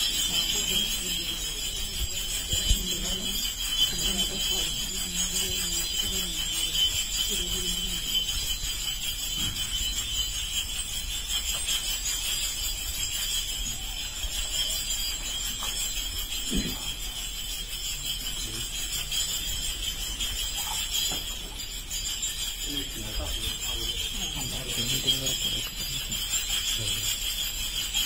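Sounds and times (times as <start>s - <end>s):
small metal bells ringing: 0.0s - 28.0s.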